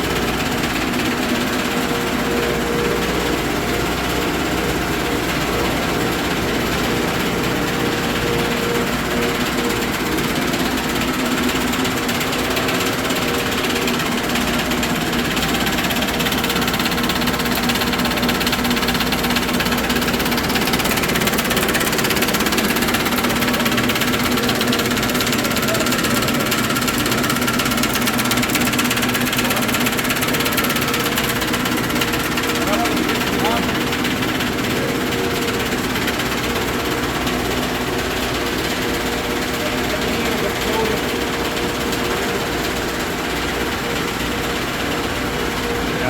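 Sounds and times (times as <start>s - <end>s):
furnace machinery humming: 0.0s - 46.0s.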